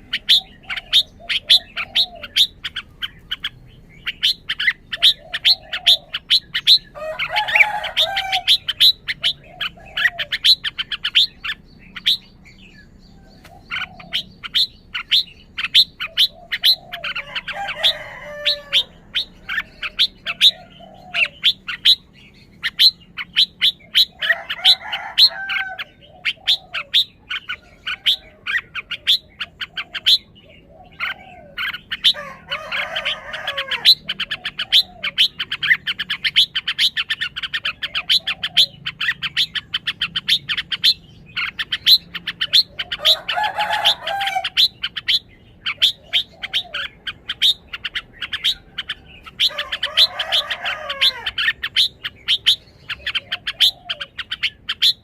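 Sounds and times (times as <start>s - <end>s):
bird singing warbling phrases: 0.0s - 55.0s.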